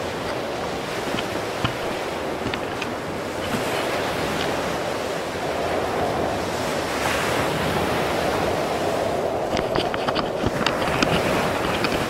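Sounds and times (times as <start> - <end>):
surf washing onto beach: 0.0 - 12.0
wind rumbling on microphone: 0.0 - 12.0.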